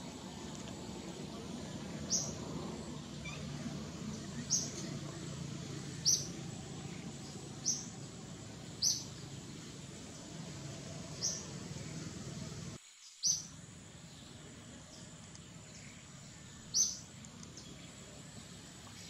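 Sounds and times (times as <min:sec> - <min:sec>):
low steady background: 0:00.0 - 0:19.0.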